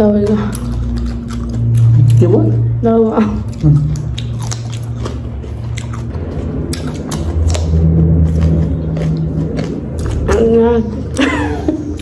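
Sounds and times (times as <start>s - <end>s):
loud low drone: 0.0s - 12.0s
cucumber being crunched and chewed: 0.5s - 2.5s, 3.4s - 11.2s.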